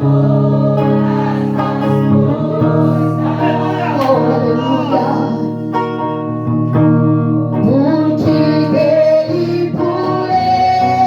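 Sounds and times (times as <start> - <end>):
person singing long sliding notes: 0.0 - 5.9, 7.5 - 11.0.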